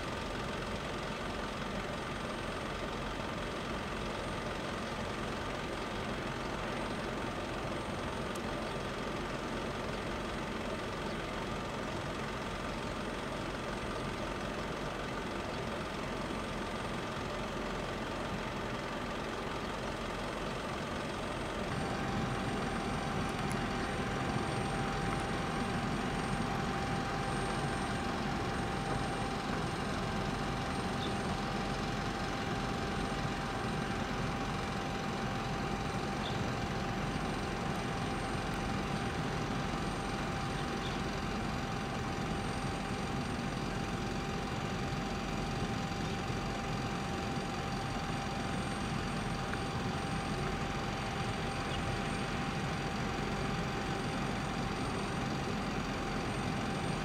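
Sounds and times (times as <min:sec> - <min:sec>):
machinery drone with whine: 0:00.0 - 0:57.0.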